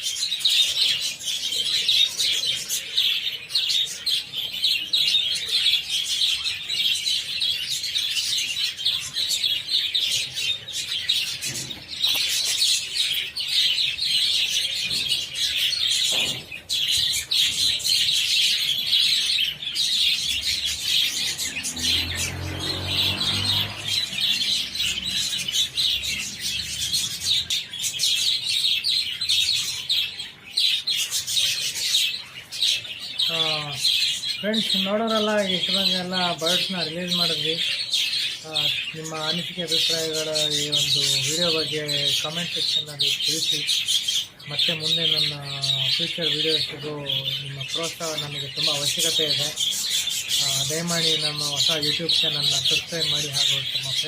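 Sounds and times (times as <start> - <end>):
budgerigars chattering and chirping: 0.0 - 54.0.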